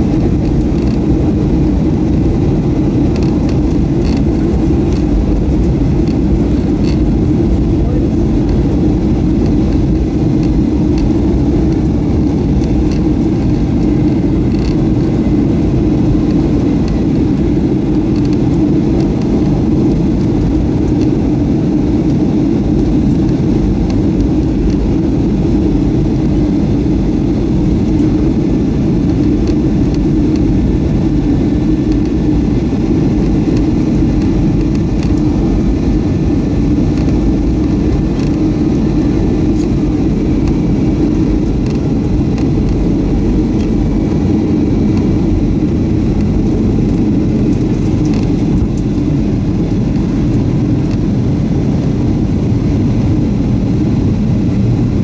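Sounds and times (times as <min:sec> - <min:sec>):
faint steady whine: 0:00.0 - 0:55.0
jet engine and airflow roar: 0:00.0 - 0:55.0.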